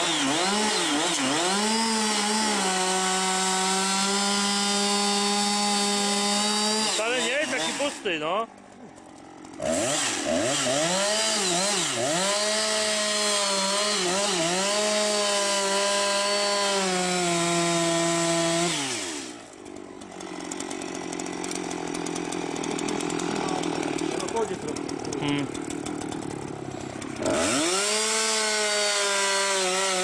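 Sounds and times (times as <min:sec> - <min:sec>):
chainsaw cutting tree trunk: 0:00.0 - 0:30.0.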